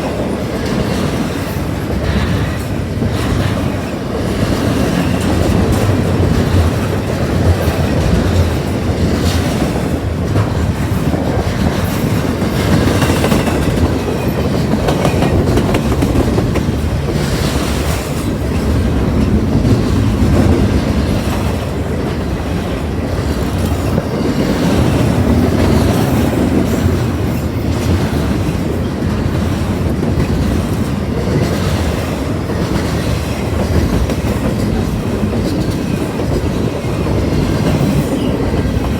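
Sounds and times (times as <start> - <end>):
train low rumble: 0.0 - 38.9
train wheels clicking on rails: 0.0 - 38.9.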